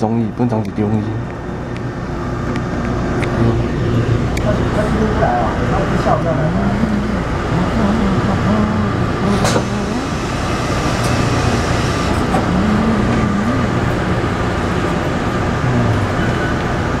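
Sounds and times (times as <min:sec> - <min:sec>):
train cabin rumble: 0:02.3 - 0:17.0.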